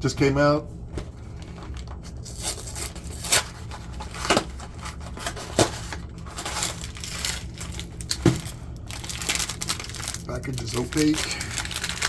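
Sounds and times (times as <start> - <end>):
packaging crinkling: 1.2 - 12.0.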